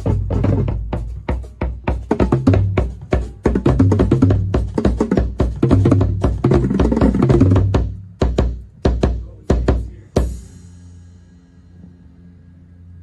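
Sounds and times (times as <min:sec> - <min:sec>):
drum corps playing: 0:00.0 - 0:10.5.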